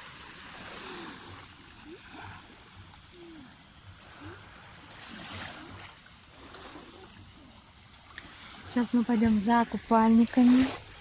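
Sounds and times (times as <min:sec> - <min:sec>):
small waves lapping on shore: 0:00.0 - 0:11.0.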